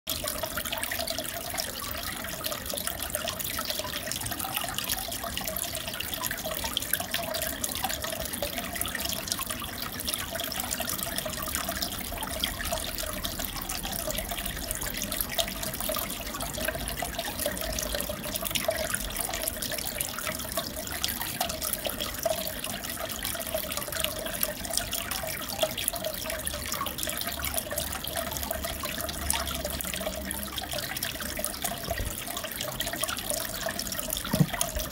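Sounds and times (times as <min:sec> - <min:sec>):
aquarium water bubbling: 0:00.1 - 0:34.9.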